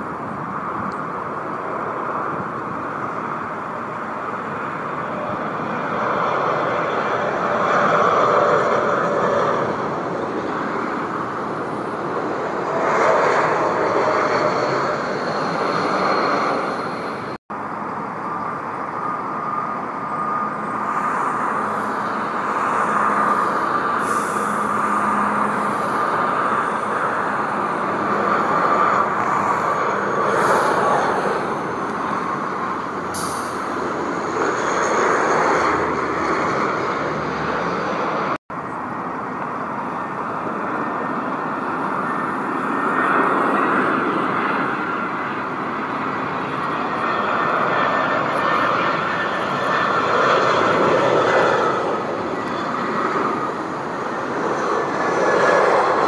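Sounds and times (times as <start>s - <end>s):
airliner engines running: 0.0s - 56.0s.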